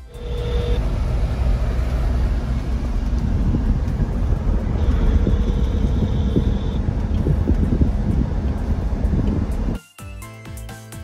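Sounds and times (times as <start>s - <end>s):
car driving heard inside cabin: 0.0s - 9.8s.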